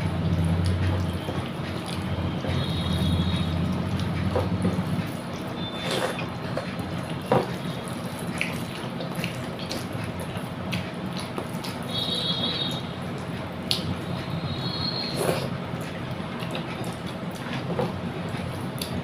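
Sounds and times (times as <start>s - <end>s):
wet squelching eating sounds: 0.0s - 19.0s.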